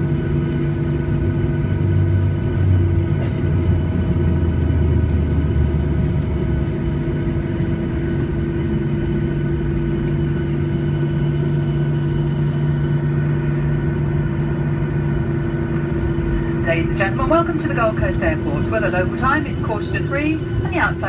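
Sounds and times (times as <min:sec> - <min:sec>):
jet engine rumble and hum: 0:00.0 - 0:21.0.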